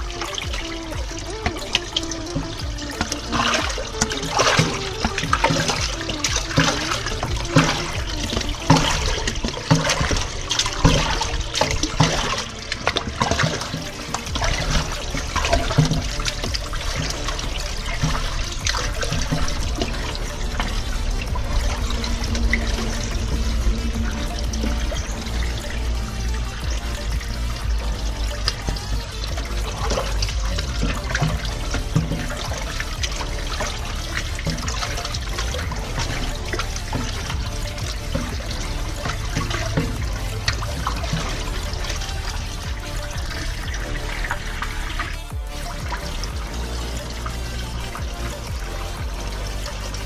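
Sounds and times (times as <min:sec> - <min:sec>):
water gushing into a drain: 0:00.0 - 0:50.0.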